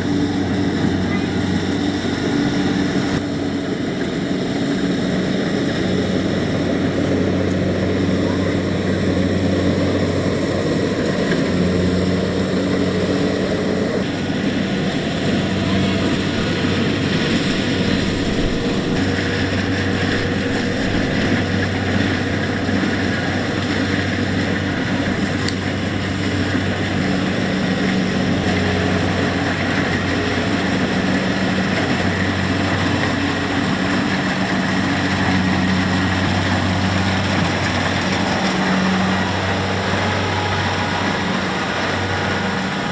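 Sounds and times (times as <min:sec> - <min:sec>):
combine harvester engine running: 0:00.0 - 0:42.9
harvesting machinery clatter: 0:00.0 - 0:42.9.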